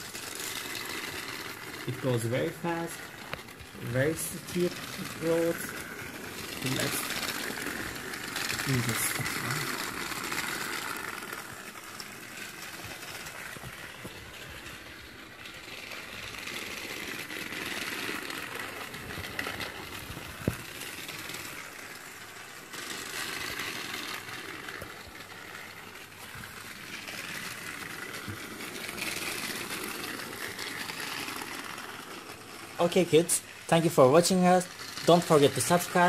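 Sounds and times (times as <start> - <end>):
toy train motor whirring: 0.0 - 36.0.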